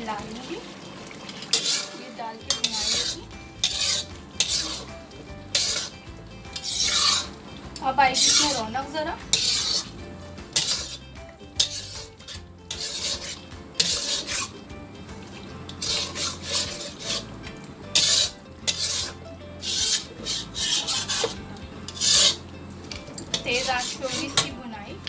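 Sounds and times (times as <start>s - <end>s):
metal spatula scraping a wok: 1.2s - 14.7s, 15.3s - 24.7s.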